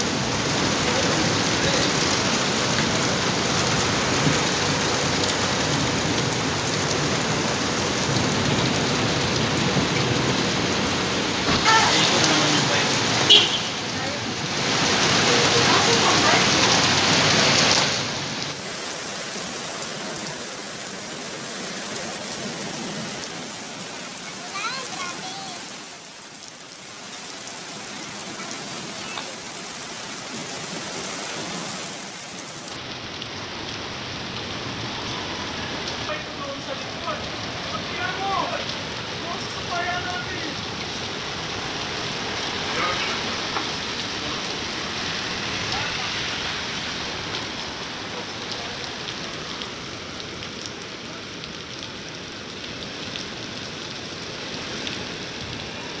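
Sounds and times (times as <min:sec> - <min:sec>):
heavy rain on pavement and cars: 0:00.0 - 0:56.0.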